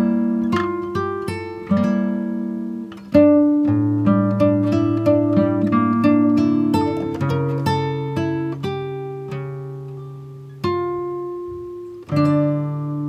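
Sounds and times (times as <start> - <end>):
soft plucked instrumental music: 0.0 - 13.0.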